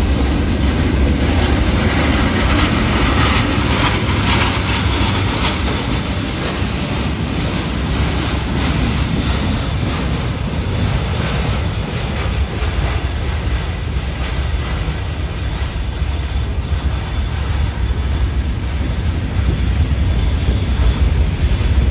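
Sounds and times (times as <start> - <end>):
freight train wheels rumbling on rails: 0.0 - 21.9.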